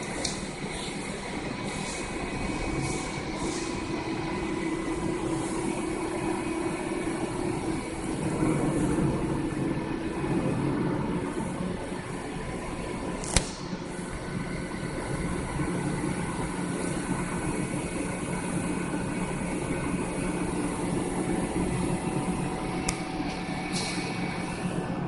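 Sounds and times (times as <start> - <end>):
drilling machine humming: 0.0 - 25.0.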